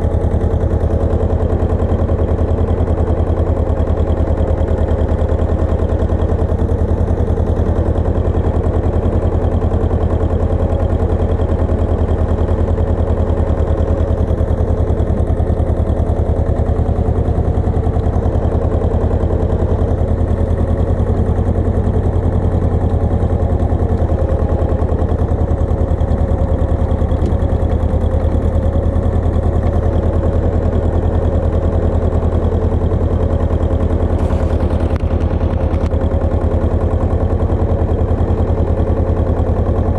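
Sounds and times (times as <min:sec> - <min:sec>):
tractor engine rumbling: 0:00.0 - 0:39.9.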